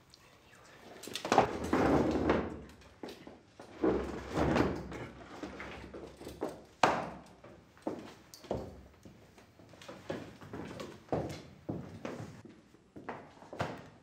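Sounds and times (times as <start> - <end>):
footsteps and knocks on wooden floor: 1.3 - 14.0.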